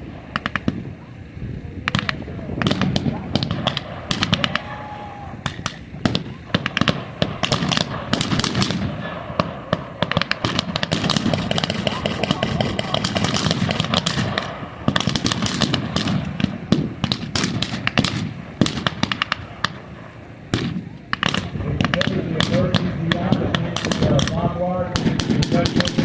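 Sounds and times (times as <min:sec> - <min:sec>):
gunshots with blank rounds: 0:00.3 - 0:00.9, 0:01.9 - 0:04.7, 0:05.4 - 0:26.0.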